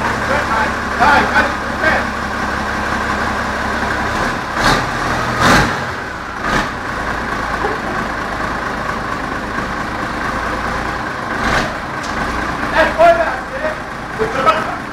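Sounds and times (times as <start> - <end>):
tractor engine idling: 0.0 - 14.9.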